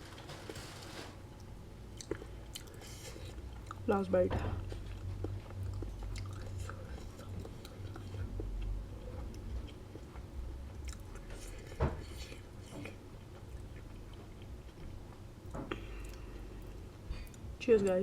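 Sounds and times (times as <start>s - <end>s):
person chewing food: 1.4s - 3.9s, 4.6s - 17.6s.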